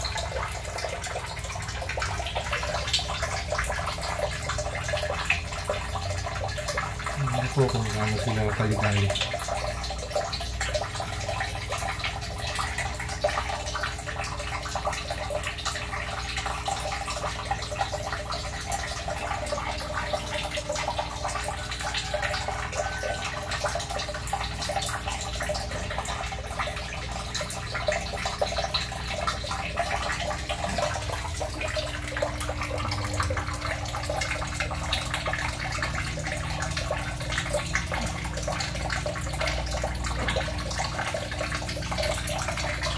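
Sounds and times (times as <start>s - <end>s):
water splashing and trickling: 0.0s - 42.9s.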